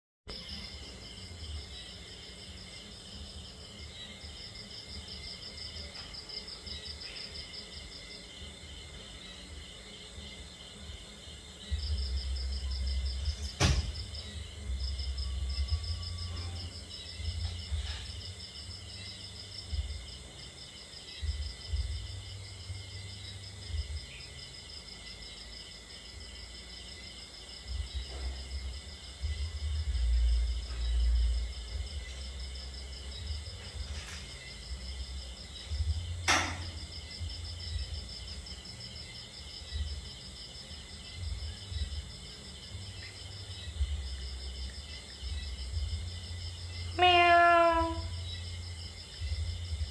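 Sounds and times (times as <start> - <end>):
insects chirping: 0.3 - 49.9.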